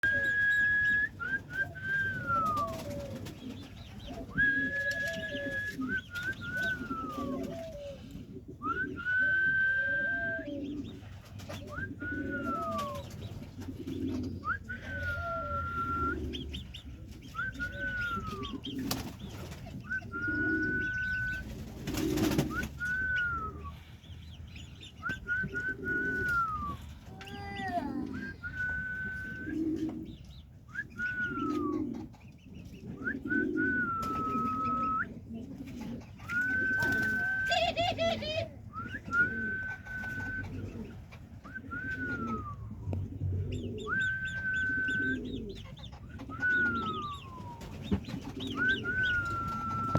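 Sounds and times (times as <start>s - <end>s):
doves cooing: 0.0s - 49.9s.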